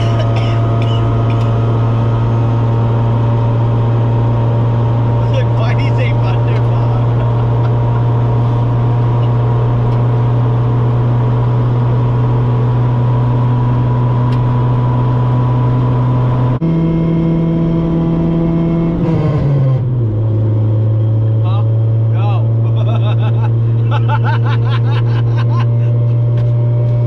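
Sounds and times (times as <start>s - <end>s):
car engine and exhaust drone: 0.0s - 27.0s
road noise: 0.0s - 27.0s.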